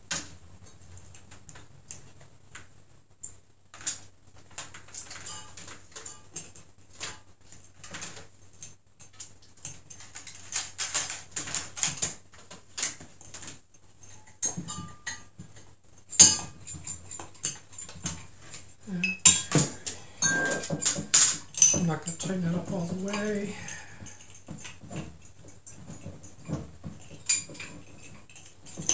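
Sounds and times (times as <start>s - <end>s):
small metal parts clinking: 3.7s - 15.4s, 16.0s - 28.9s.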